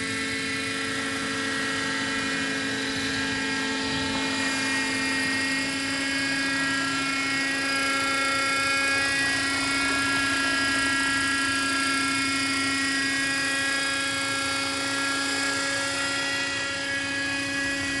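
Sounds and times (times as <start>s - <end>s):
model helicopter whine: 0.0s - 18.0s.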